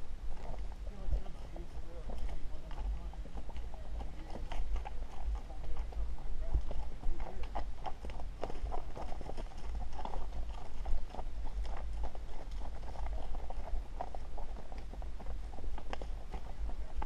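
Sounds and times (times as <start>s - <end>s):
hooves clip-clopping on dirt: 0.0s - 17.0s.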